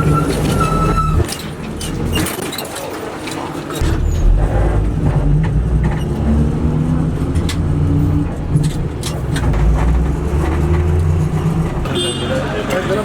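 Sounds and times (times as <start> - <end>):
bus engine droning: 0.0 - 2.2, 3.8 - 13.0.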